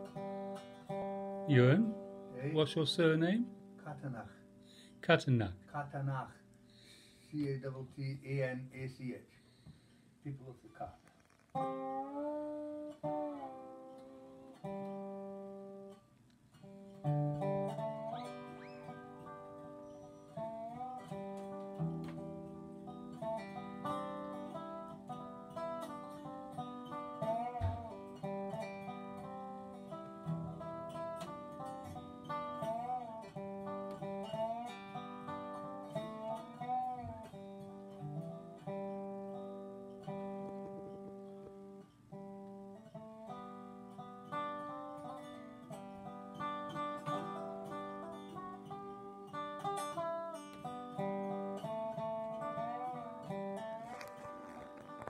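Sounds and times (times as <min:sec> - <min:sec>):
slide resonator guitar melody: 0:00.0 - 0:06.9, 0:11.5 - 0:55.0.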